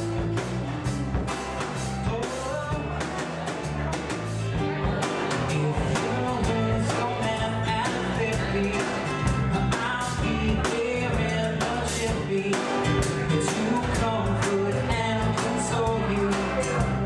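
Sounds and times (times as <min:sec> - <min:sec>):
bass guitar: 0:00.0 - 0:17.0
drum kit beat: 0:00.0 - 0:17.0.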